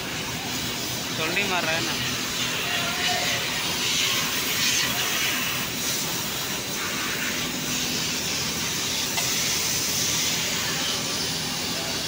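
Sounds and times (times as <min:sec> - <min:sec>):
assembly-line machinery hissing: 0:00.0 - 0:12.0.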